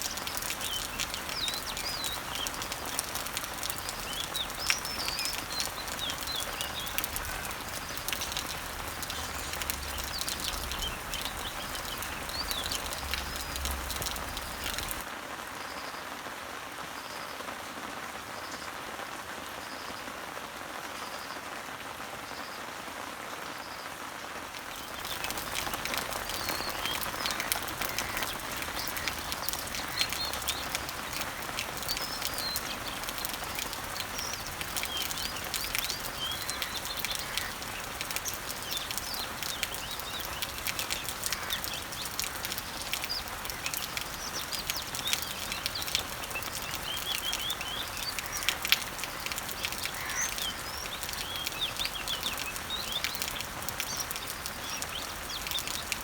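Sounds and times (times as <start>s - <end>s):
birds chirping: 0.0s - 15.1s, 24.6s - 56.0s
rain pattering on leaves: 0.0s - 56.0s.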